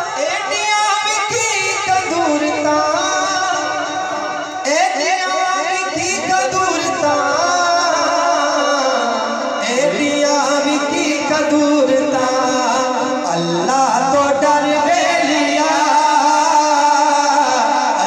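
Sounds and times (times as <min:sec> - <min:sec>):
men singing over a pa system: 0:00.0 - 0:18.0.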